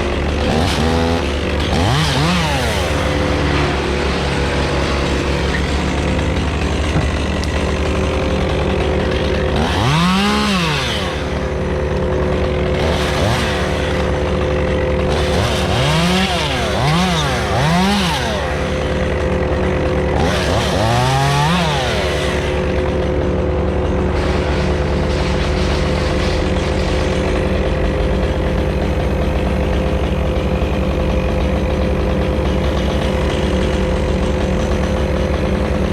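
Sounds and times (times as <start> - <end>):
chainsaw idling and revving: 0.0 - 35.9.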